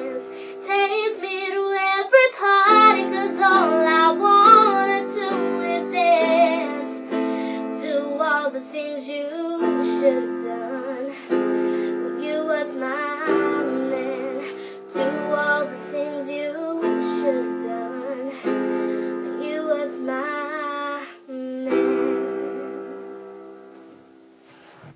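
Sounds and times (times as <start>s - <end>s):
woman singing: 0.0s - 23.1s
piano chords: 0.0s - 24.8s.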